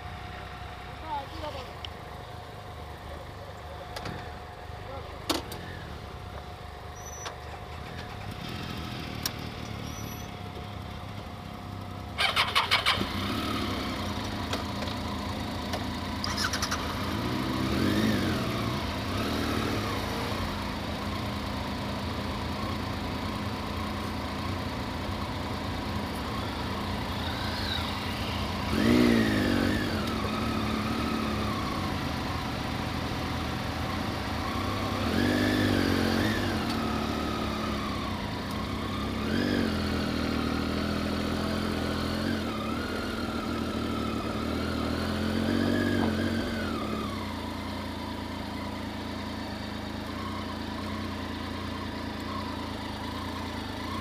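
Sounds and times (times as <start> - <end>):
motorcycle engine starting and revving: 0.0 - 54.0.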